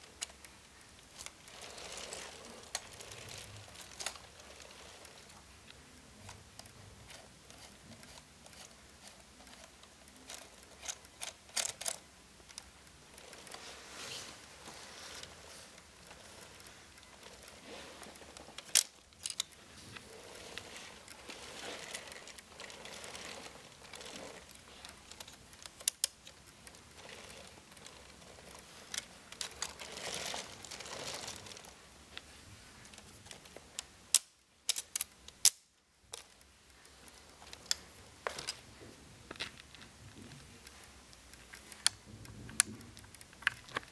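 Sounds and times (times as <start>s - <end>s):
soft rustling: 0.0s - 34.1s, 36.0s - 43.9s
plastic clicks: 0.2s - 13.6s, 18.2s - 38.7s, 39.3s - 43.9s.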